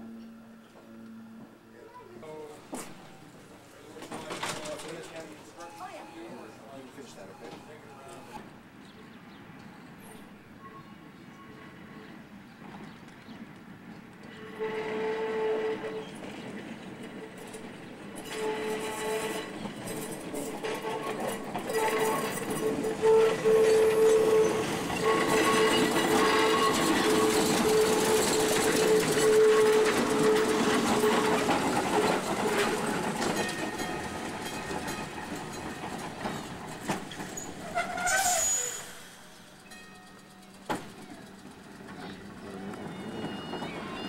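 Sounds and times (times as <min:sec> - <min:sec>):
streetcar passing on track: 0:00.0 - 0:44.0.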